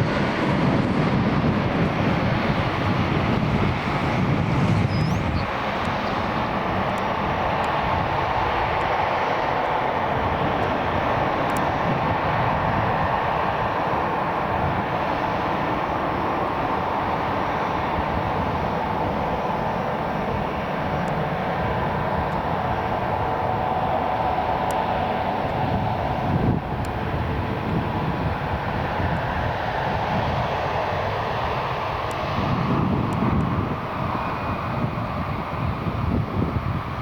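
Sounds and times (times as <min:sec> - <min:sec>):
jet engine whine: 0:00.0 - 0:37.0
jet engines rushing: 0:00.0 - 0:37.0.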